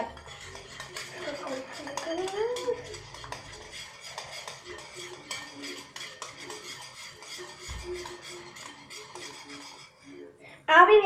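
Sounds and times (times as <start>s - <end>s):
spoon stirring slime in bowl: 0.0s - 10.4s.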